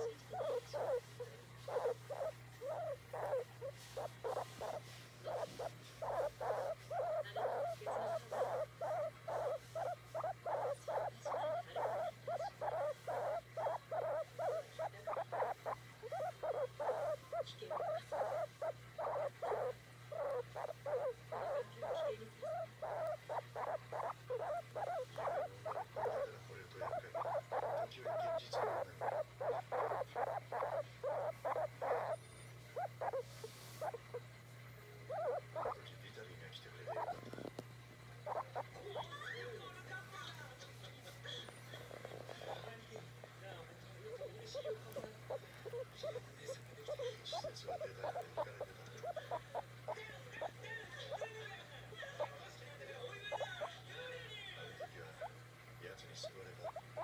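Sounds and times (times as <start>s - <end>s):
guinea pig short clipped calls: 0.0s - 34.3s, 35.0s - 36.0s, 36.7s - 39.3s, 44.0s - 51.3s, 56.2s - 57.0s
steady low hum: 0.0s - 57.0s.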